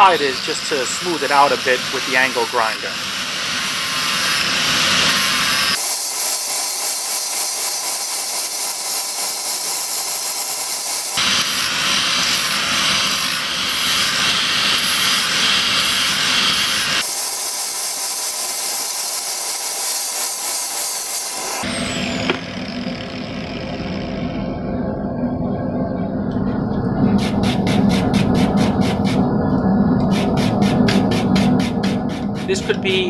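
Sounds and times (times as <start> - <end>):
angle grinder grinding steel: 0.0 - 24.5, 30.0 - 33.0.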